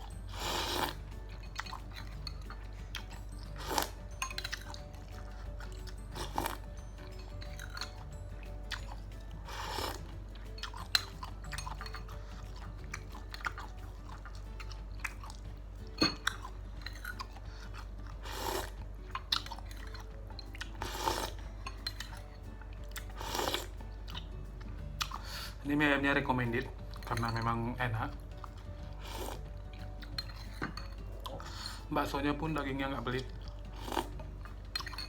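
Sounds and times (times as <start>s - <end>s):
background music: 0.0s - 35.0s
close chewing and eating: 0.0s - 35.0s.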